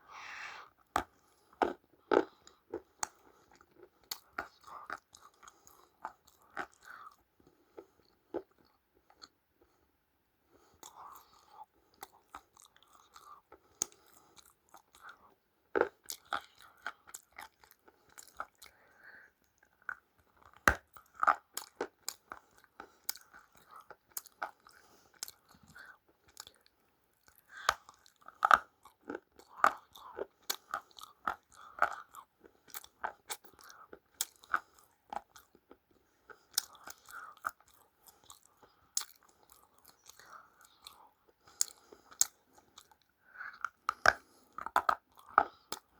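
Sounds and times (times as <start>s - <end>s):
chewing crunchy food: 0.3s - 9.8s, 10.5s - 45.9s.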